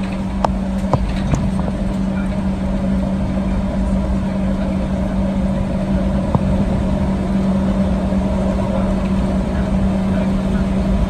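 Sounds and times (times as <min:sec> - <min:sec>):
aircraft cabin engine hum: 0:00.0 - 0:11.0.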